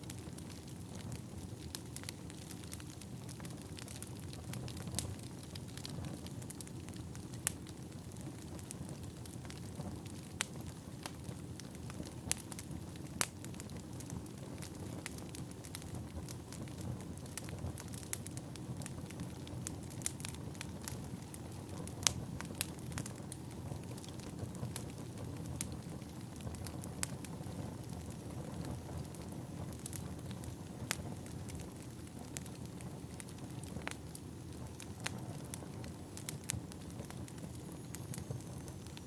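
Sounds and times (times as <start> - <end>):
firewood crackling and popping: 0.0 - 39.0
wood fire rumbling: 0.0 - 39.0.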